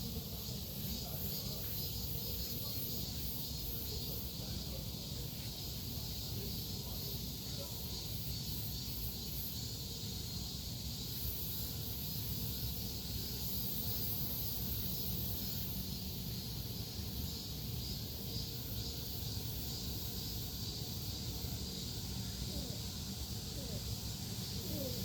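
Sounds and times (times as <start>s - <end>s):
high even hiss: 0.0s - 25.0s.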